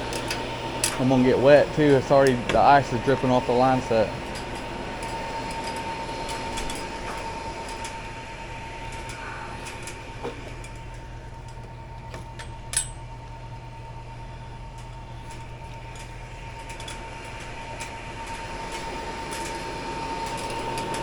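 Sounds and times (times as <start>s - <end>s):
air conditioning hum: 0.0s - 21.0s
thin constant whine: 0.0s - 21.0s.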